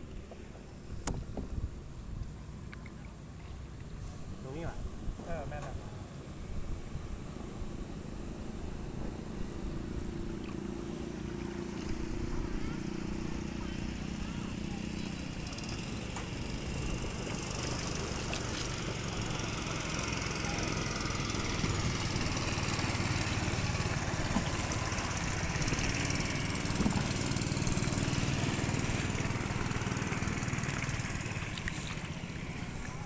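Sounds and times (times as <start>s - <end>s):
small boat motor running: 0.0s - 33.0s.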